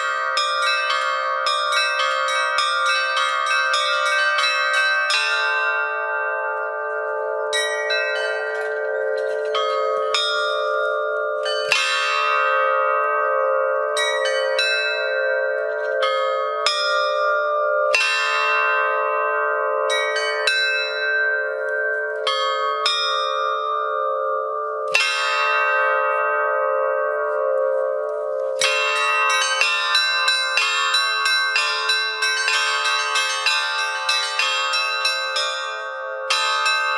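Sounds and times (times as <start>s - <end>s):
bells ringing: 0.0s - 36.9s.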